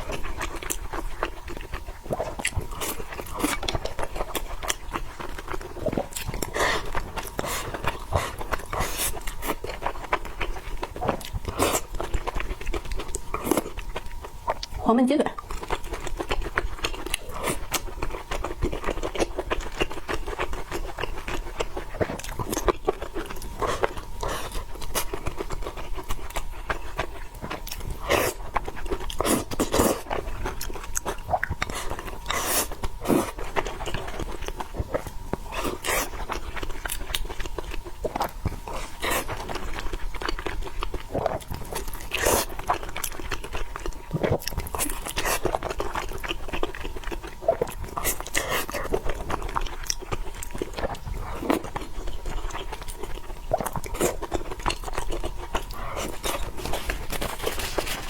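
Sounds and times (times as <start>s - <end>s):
chewing and biting: 0.0s - 14.8s, 15.4s - 58.0s.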